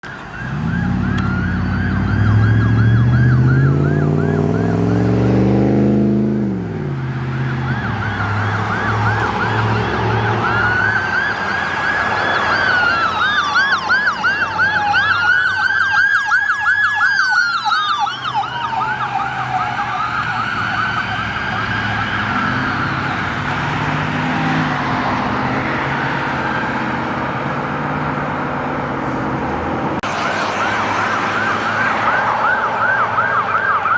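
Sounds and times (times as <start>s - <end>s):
siren yelp: 0.0s - 27.8s, 30.0s - 33.9s
siren wails rising and falling: 0.0s - 33.9s
vehicle engine accelerating: 0.3s - 15.1s, 16.0s - 33.9s.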